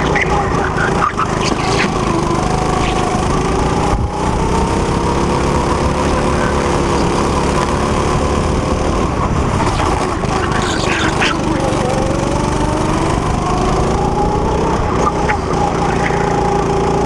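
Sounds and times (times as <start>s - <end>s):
go-kart engine at high revs: 0.0s - 17.0s.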